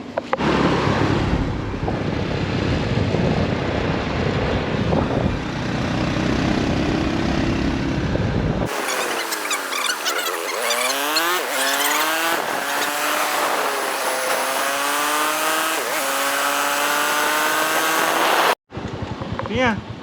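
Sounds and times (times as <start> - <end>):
vehicle engine accelerating: 0.4 - 18.6.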